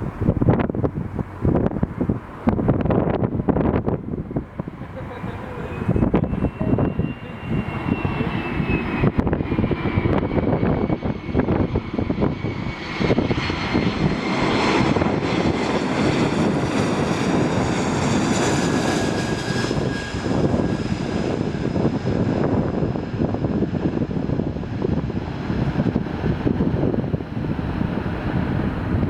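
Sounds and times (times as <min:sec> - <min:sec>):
jet engines rumbling and whining: 0:00.0 - 0:29.0
wind rumbling on microphone: 0:00.0 - 0:29.0.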